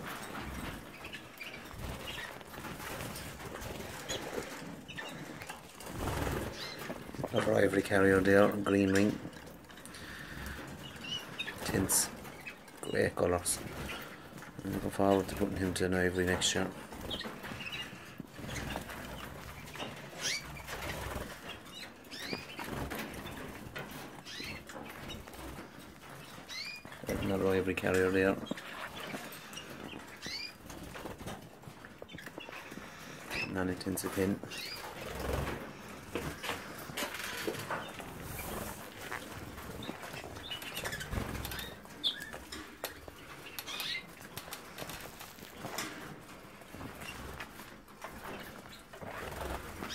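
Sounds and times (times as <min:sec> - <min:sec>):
canaries chirping: 0:00.0 - 0:49.9
wings fluttering: 0:00.0 - 0:49.9.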